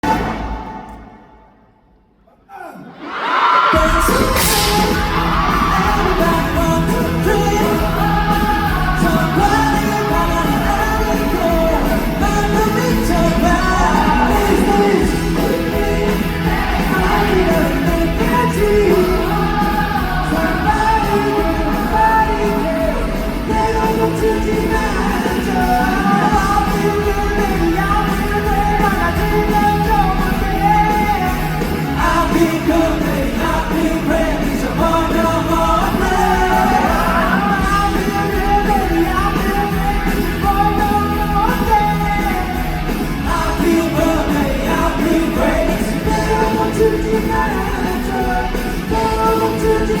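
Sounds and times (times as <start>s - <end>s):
live rock band with singing: 0.0s - 1.4s, 3.0s - 50.0s.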